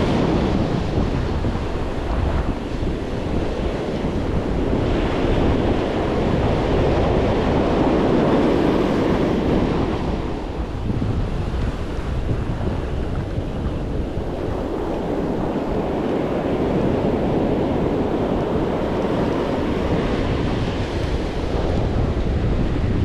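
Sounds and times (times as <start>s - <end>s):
surf breaking on beach: 0.0s - 23.0s
wind buffeting microphone: 0.0s - 23.0s.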